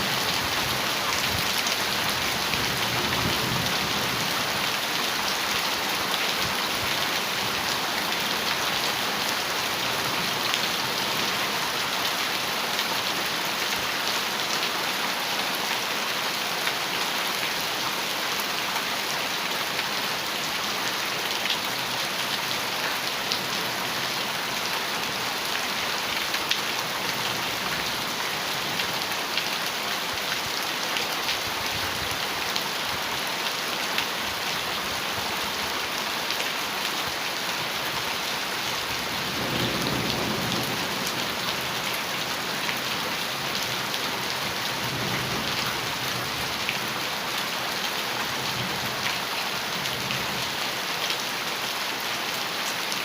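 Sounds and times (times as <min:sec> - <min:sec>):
heavy rain on a metal roof: 0:00.0 - 0:53.0.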